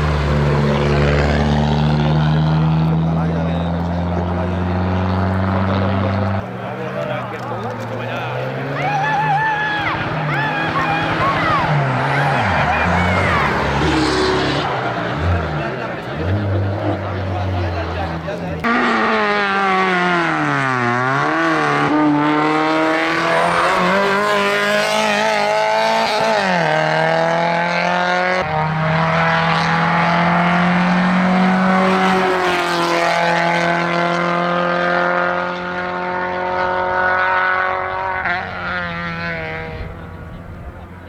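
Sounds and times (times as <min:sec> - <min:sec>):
rally car engine at full throttle: 0:00.0 - 0:41.0.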